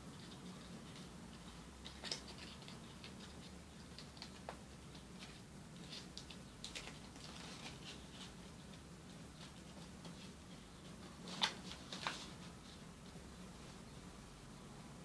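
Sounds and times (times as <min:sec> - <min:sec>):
paper crinkling: 0:00.2 - 0:12.8.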